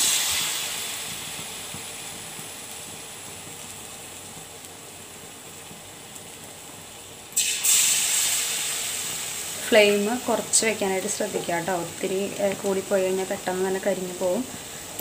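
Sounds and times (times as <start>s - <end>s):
batter deep-frying in sizzling oil: 0.0s - 15.0s.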